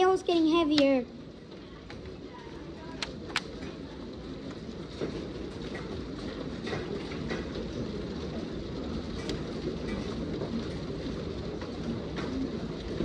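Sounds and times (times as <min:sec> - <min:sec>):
hailstones clicking: 0:00.0 - 0:13.0
heavy hail and rain: 0:00.0 - 0:13.0.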